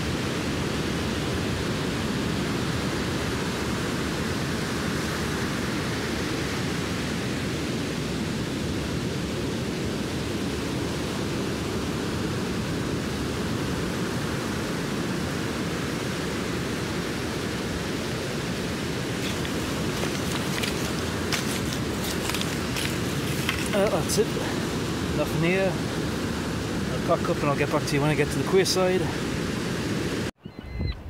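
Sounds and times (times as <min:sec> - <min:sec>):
waves breaking on a beach: 0:00.0 - 0:30.3.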